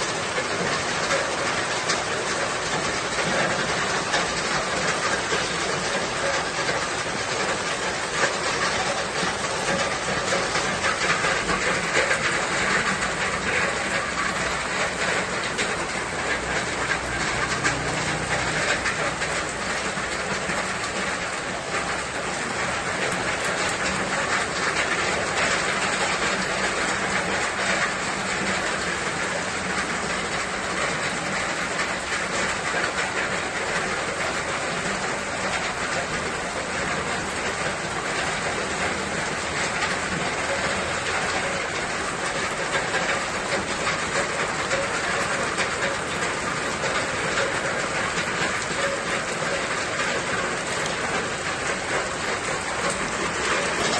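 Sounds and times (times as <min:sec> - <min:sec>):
steady rain hiss: 0:00.0 - 0:53.9.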